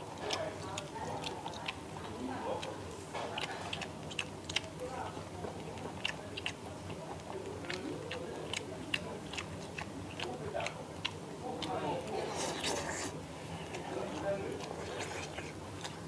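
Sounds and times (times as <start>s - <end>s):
chewing: 0.0s - 16.0s
low background voices: 0.0s - 16.0s.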